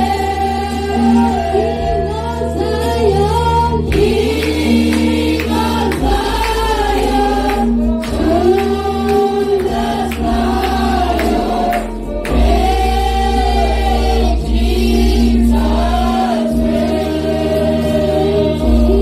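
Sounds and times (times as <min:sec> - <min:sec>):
choir singing gospel song: 0:00.0 - 0:19.0
low instrumental accompaniment: 0:00.0 - 0:19.0.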